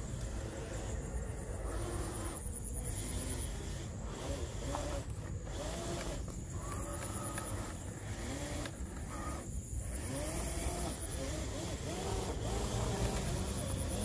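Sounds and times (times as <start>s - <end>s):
electric motor whining in pulses: 0.0s - 14.0s.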